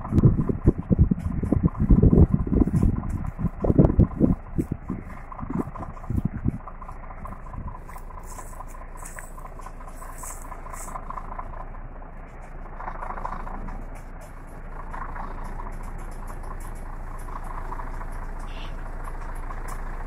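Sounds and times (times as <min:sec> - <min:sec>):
baler running: 0:00.0 - 0:20.0
light rattle: 0:00.0 - 0:20.0.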